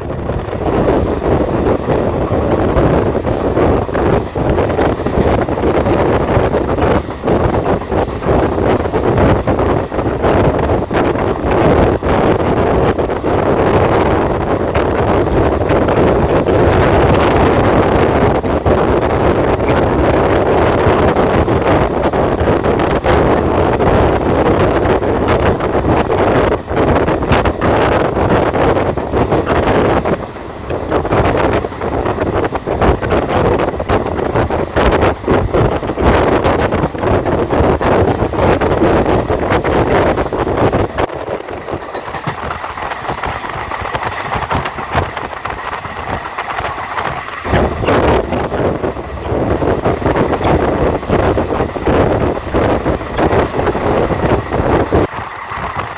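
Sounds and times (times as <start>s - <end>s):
train rumbling on track: 0.0s - 55.9s
wind buffeting microphone: 0.0s - 55.9s.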